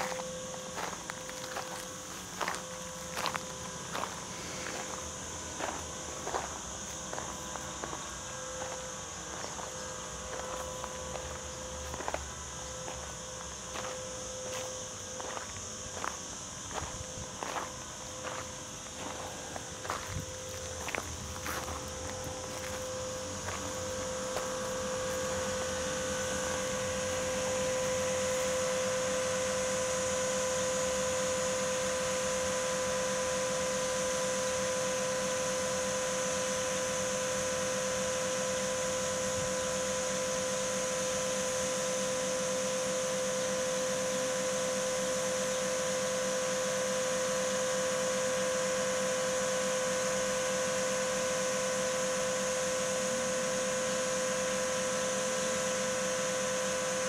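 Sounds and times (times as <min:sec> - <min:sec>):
machine hum with whine: 0:00.0 - 0:57.0.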